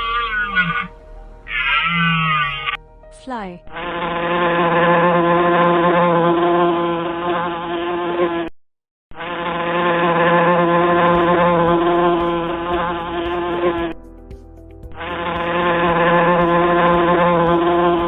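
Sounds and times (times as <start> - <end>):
fly buzzing: 0.0 - 2.8, 3.6 - 8.5, 9.1 - 14.2, 14.9 - 18.0.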